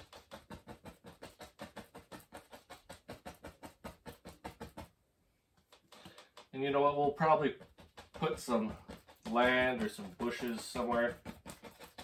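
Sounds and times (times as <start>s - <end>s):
brush tapping on canvas: 0.0s - 5.0s, 5.6s - 12.0s.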